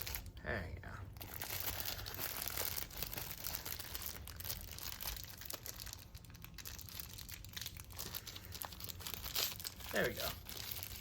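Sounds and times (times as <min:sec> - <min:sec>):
packaging bag crinkling: 0:00.0 - 0:00.4, 0:01.1 - 0:11.0.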